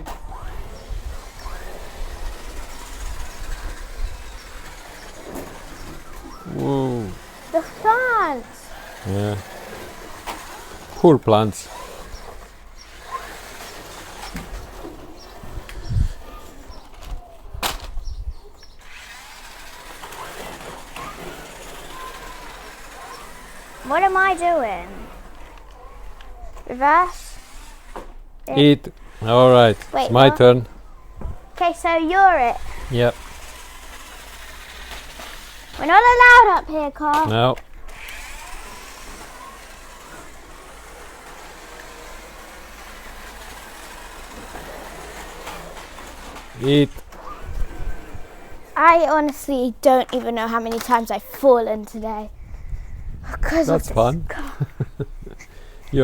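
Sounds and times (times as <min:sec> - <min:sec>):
toy car electric motor whirring: 0:00.0 - 0:56.0.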